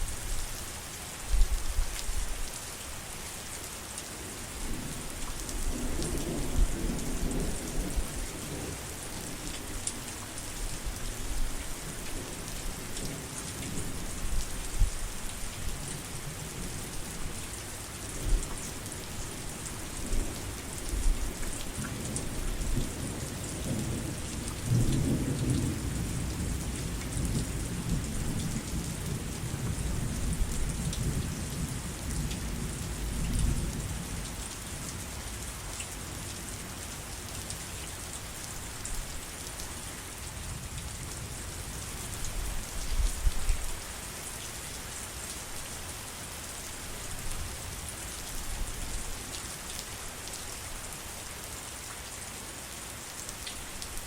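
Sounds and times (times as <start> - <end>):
heavy rain pattering: 0.1 - 54.0.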